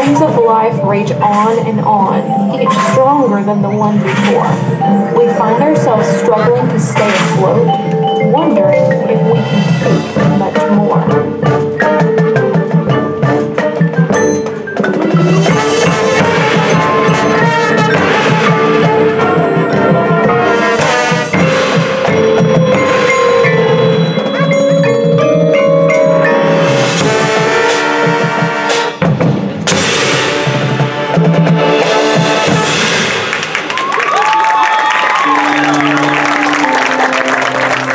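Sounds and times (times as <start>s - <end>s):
marimbas playing: 0.0s - 29.0s, 34.3s - 37.9s
marching band playing: 0.0s - 37.9s.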